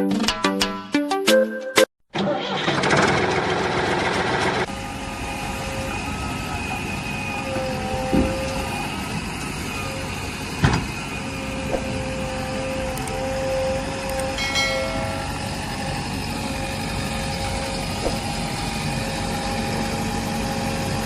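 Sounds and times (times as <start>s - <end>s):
small motor whining: 2.6s - 21.0s.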